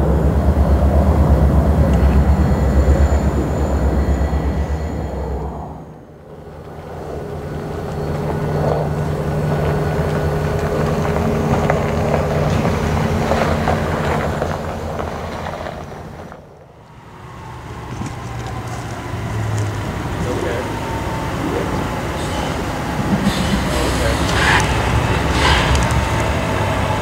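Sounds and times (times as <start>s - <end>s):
distant diesel drone: 0.0s - 27.0s
locomotive diesel engines droning: 0.0s - 27.0s.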